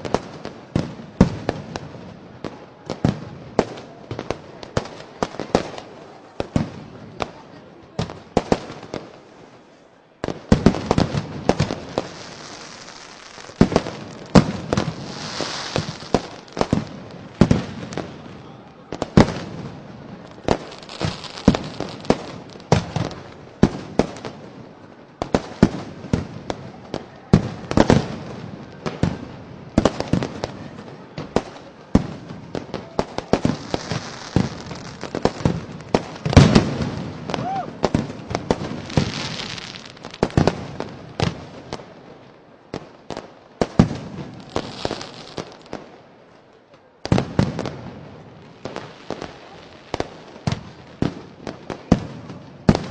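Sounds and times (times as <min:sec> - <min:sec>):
fireworks and firecrackers banging: 0:00.0 - 0:52.9.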